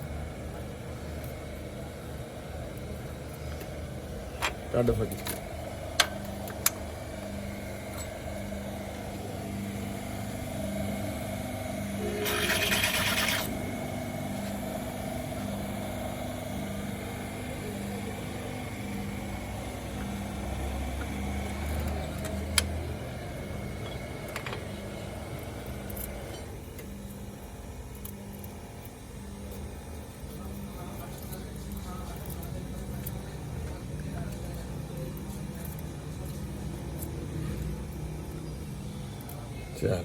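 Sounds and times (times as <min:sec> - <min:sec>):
engine running with pulsing hum: 0:00.0 - 0:40.0.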